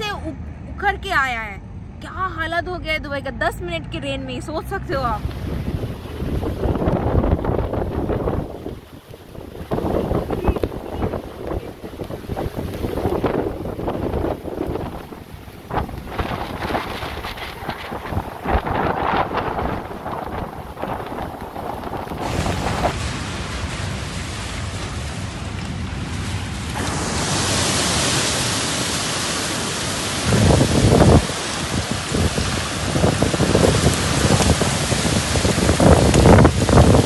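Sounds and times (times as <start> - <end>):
wind buffeting microphone: 4.8 - 28.5, 29.8 - 37.0
rain hiss: 5.2 - 37.0.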